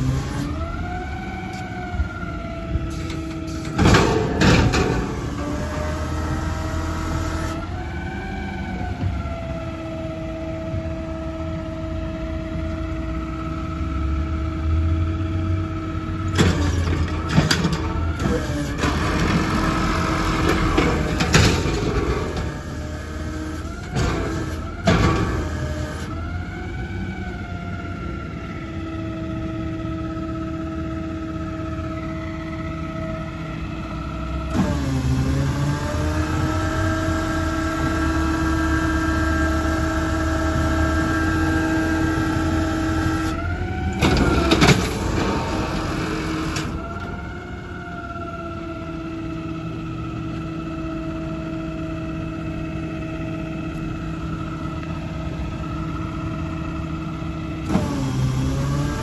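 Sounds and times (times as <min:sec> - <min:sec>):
garbage truck engine whining: 0:00.0 - 0:59.0.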